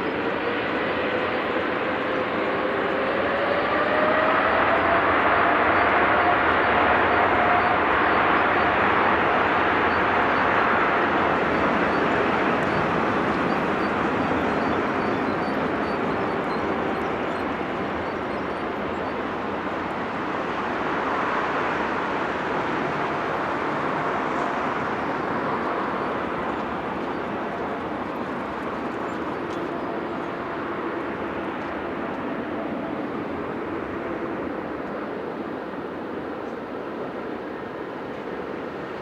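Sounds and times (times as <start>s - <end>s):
jet airliner taking off: 0.0s - 39.0s.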